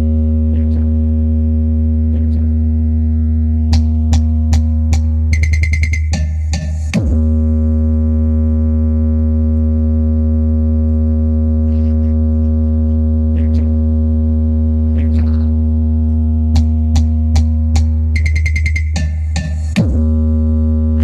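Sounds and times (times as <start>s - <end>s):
deep synthesized bass tone: 0.0s - 21.0s.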